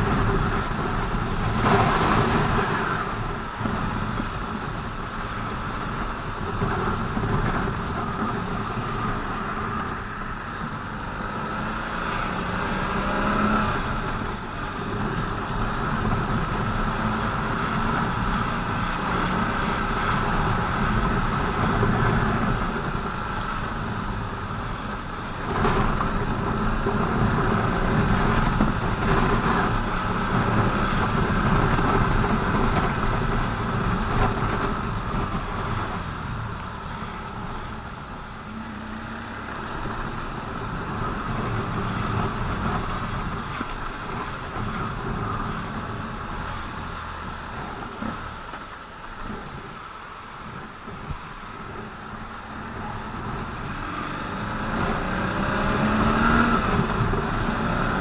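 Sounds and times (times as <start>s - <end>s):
motorcycle engine running: 0.0s - 58.0s
road and traffic noise: 0.0s - 58.0s.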